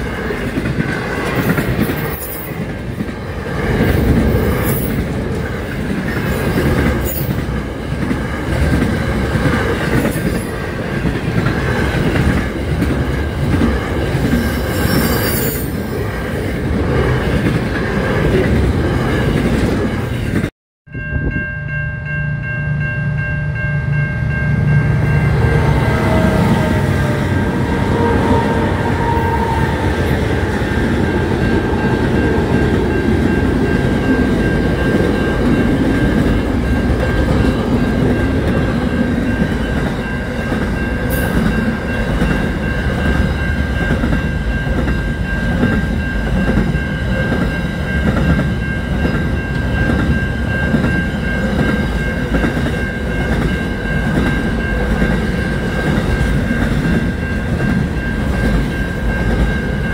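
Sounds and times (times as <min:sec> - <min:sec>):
steady high tone: 0:09.3 - 0:59.9.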